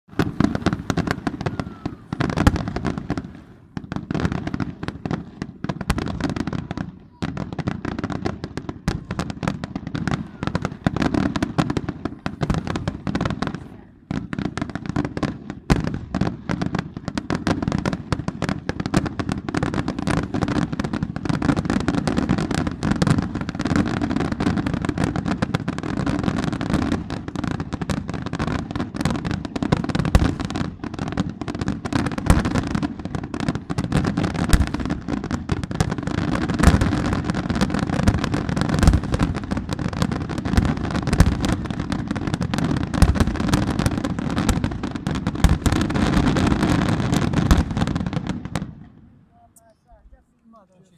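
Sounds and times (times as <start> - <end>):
fireworks crackling bangs: 0.1 - 50.2.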